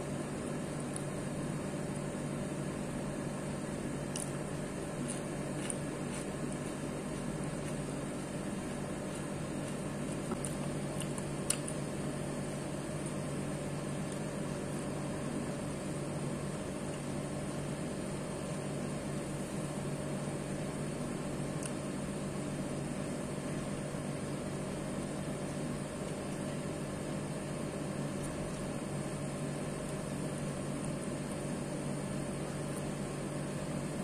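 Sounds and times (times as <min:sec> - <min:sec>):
electric fan motor humming: 0:00.0 - 0:34.0.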